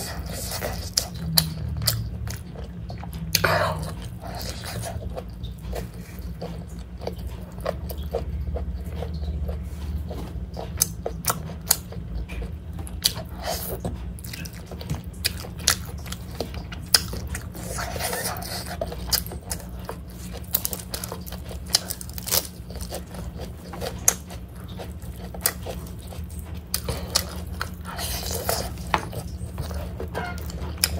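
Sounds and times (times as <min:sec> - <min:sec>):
chewing and mouth sounds: 0:00.0 - 0:30.9
steady low hum: 0:00.0 - 0:30.9.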